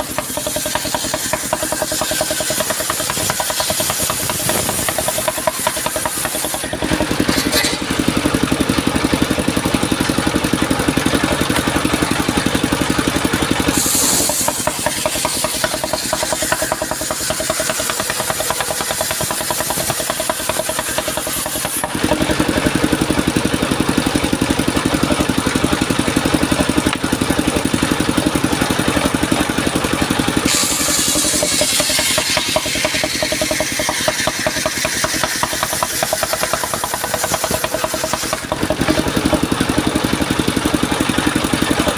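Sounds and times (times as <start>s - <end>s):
circular saw blade cutting wood: 0.0s - 41.9s
engine pulsing: 0.0s - 41.9s.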